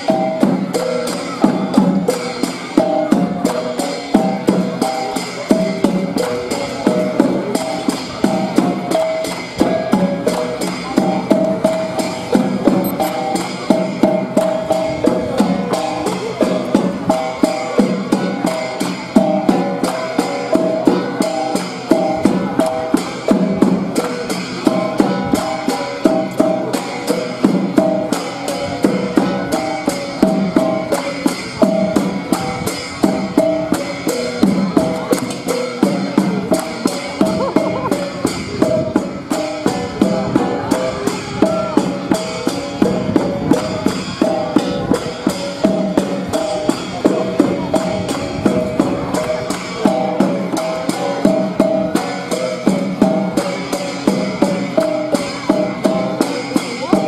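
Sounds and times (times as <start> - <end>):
drums beating: 0.0 - 57.0.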